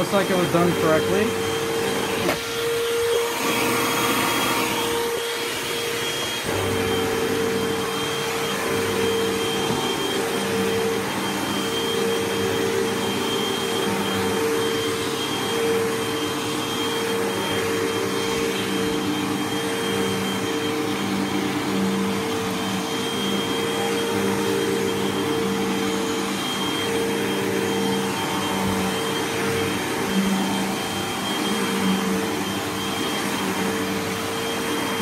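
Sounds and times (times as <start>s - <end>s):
upright vacuum running on carpet: 0.0s - 35.0s.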